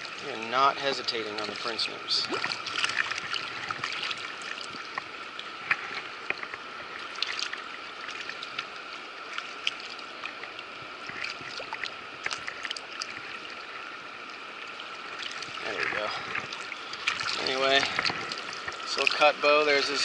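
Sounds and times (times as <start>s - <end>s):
small splashes and clicks: 0.0s - 20.0s.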